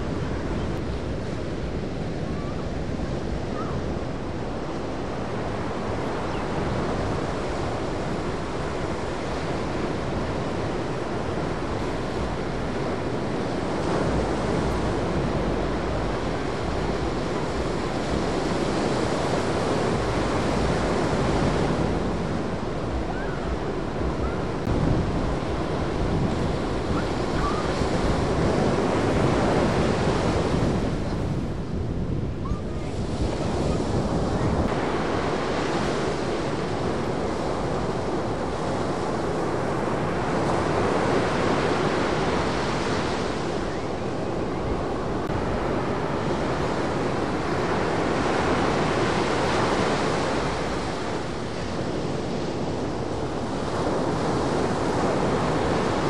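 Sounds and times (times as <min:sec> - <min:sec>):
ocean surf breaking: 0:00.0 - 0:56.0
wind rumbling on microphone: 0:00.0 - 0:56.0.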